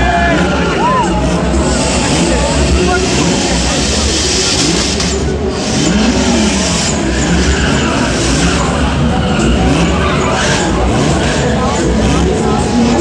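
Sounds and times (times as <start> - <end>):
car engine revving: 0.0 - 13.0
tyres screeching on asphalt: 0.0 - 13.0.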